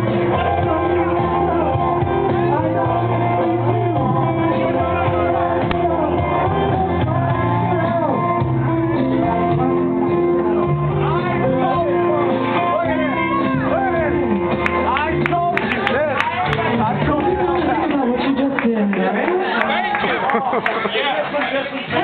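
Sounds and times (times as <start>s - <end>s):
man singing karaoke: 0.0s - 18.3s
loud backing track: 0.0s - 22.0s.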